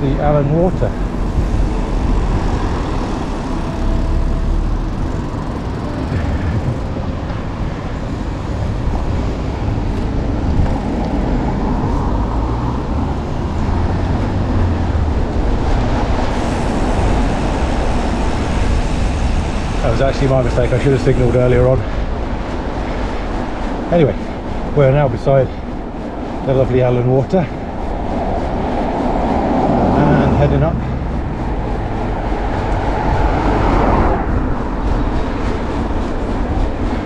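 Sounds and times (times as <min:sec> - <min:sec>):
bike road noise: 0:00.0 - 0:37.0
road traffic: 0:00.0 - 0:37.0
wind rushing: 0:00.0 - 0:37.0.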